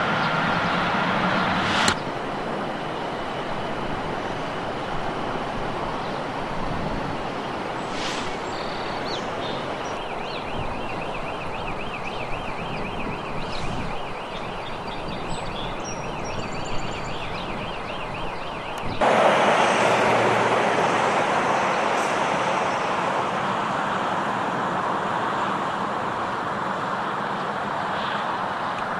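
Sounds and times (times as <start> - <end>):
traffic noise: 0.0 - 28.9.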